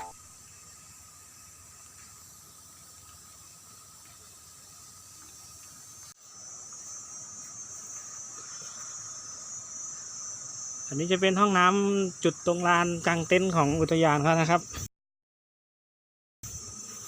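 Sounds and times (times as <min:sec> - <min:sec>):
high-pitched insect chorus: 0:00.0 - 0:14.9, 0:16.4 - 0:17.0
thin insect drone: 0:00.0 - 0:14.9, 0:16.4 - 0:17.0.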